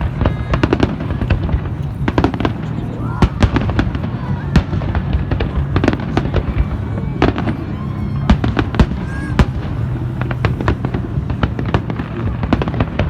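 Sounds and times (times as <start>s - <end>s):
continuous low rumble: 0.0s - 13.0s
fireworks bangs and crackles: 0.0s - 13.0s.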